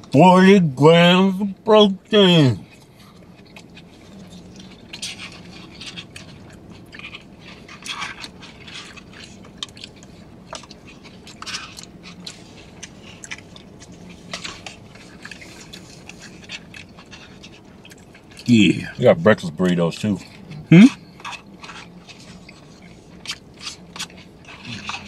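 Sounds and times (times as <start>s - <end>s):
faint low hum: 0.0s - 25.0s
wet chewing and lip smacks: 2.7s - 18.5s, 20.0s - 25.0s.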